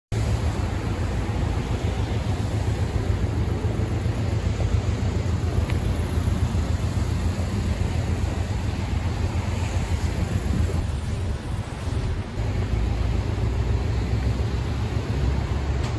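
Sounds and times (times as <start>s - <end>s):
motor traffic passing: 0.2s - 15.9s.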